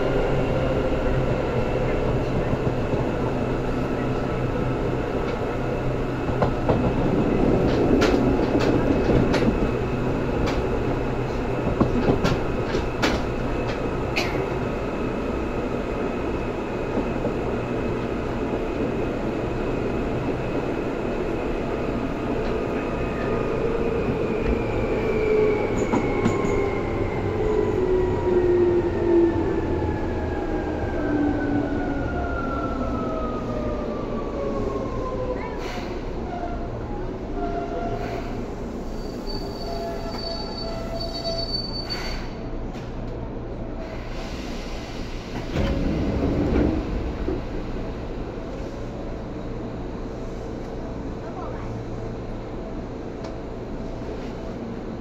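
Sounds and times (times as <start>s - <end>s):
train running noise: 0.0s - 31.5s, 35.2s - 55.0s.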